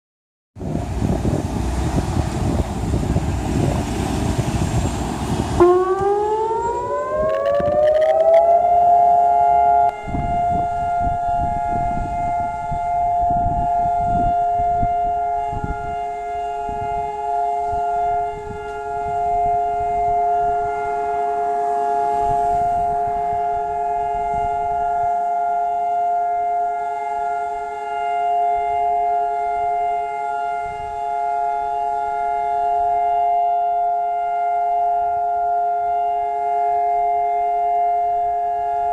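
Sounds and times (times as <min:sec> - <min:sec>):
civil defense siren: 0:00.6 - 0:38.9.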